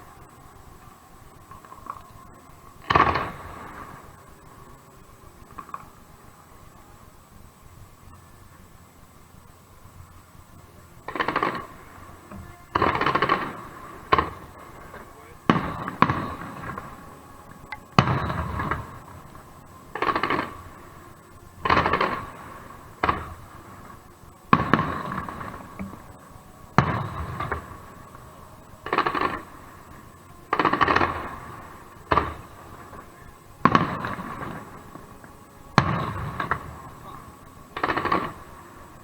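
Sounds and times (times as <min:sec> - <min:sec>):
fireworks bursting with echo: 0:00.0 - 0:39.0.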